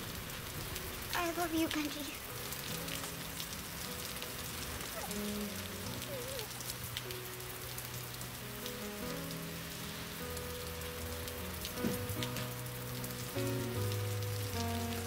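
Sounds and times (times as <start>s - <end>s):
soft film score music: 0.0s - 15.0s
steady rain falling: 0.0s - 15.0s.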